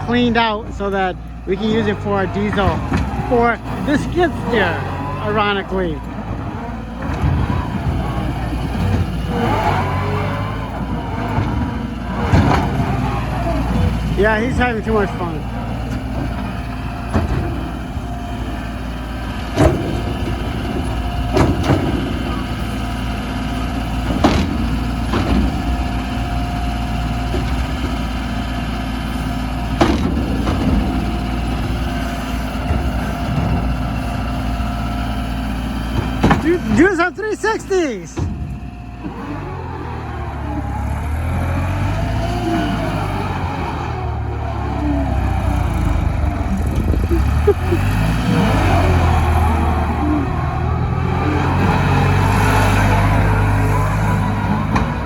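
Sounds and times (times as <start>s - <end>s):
diesel engine revving under load: 0.0s - 55.0s.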